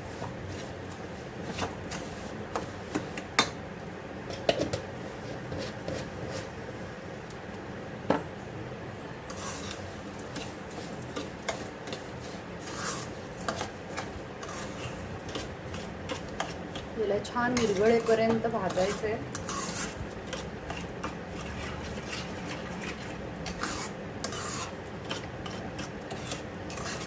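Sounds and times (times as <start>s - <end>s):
spatula scraping a pan: 0.0s - 3.5s, 5.2s - 6.5s, 9.3s - 27.0s.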